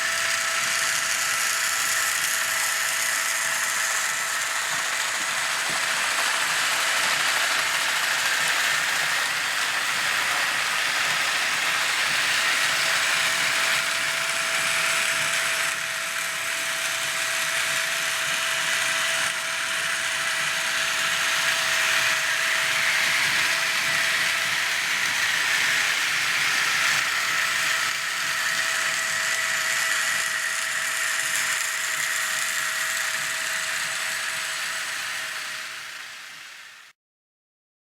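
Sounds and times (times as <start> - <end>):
toy train motor whirring: 0.0 - 36.9.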